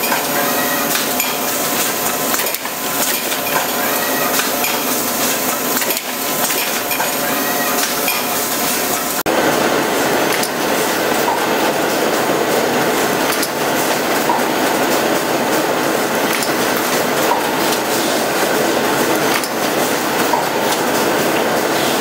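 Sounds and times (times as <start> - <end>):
machine clattering and ticking: 0.0 - 22.0.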